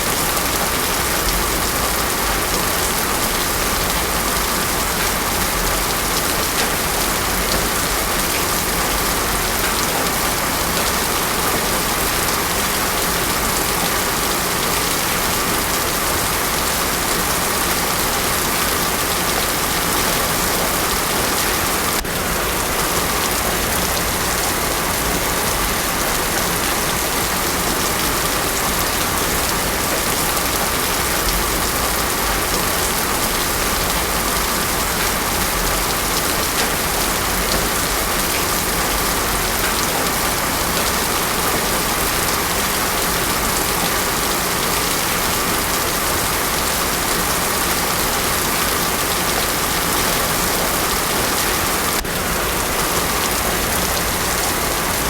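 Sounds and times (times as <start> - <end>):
heavy rain on a road: 0.0 - 55.0.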